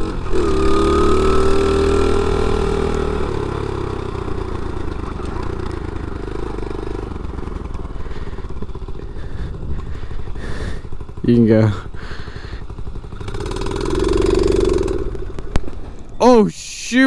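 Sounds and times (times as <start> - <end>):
small motorbike engine running: 0.0 - 16.1.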